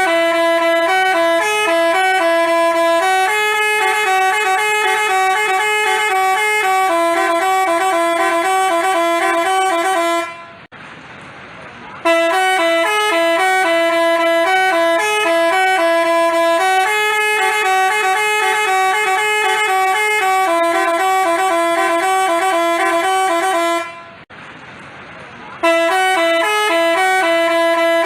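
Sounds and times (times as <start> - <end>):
basuri horn playing a tune: 0.0 - 10.7, 12.0 - 24.2, 25.6 - 28.0.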